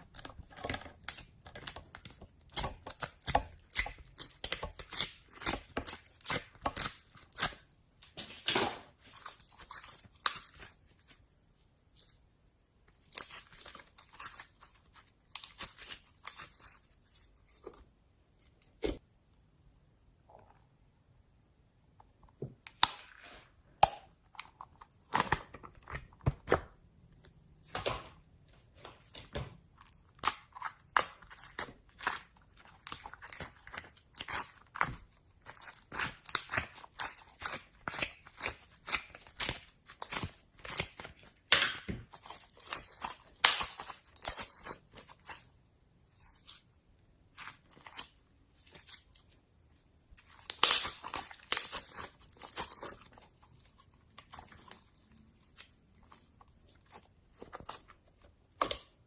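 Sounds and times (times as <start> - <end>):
slime crackling and squelching: 0.0 - 18.0, 29.6 - 59.0.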